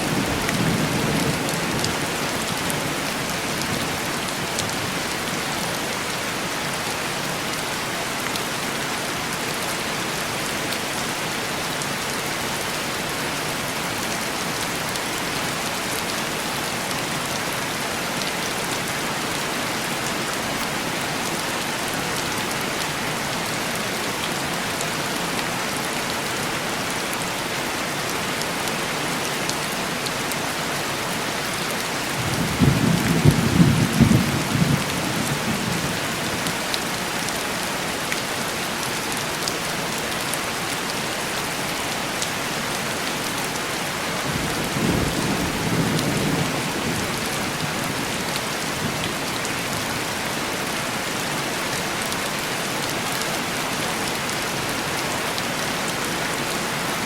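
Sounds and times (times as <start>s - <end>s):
heavy rain on window glass: 0.0s - 57.0s.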